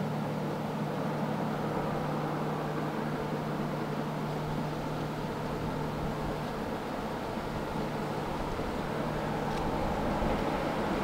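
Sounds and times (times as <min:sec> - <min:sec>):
diesel train engine running: 0:00.0 - 0:11.0.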